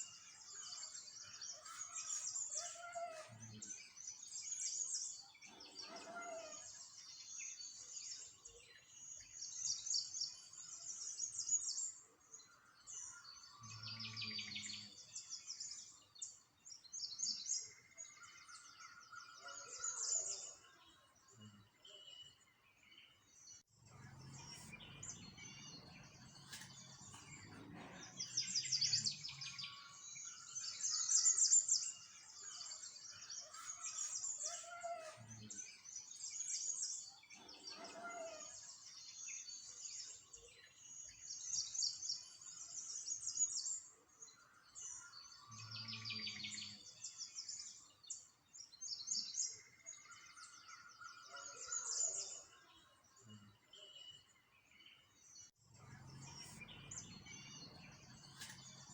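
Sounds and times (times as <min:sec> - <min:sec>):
songbirds chirping and twittering: 0:00.0 - 0:58.9.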